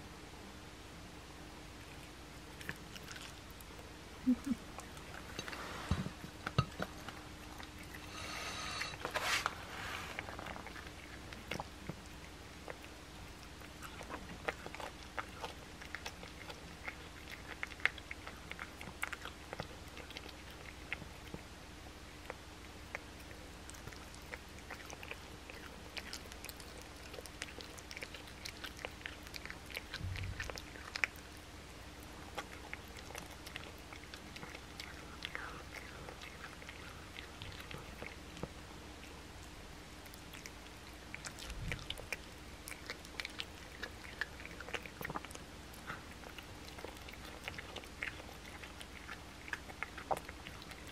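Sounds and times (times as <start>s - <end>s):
cat chewing wetly: 1.7s - 50.9s.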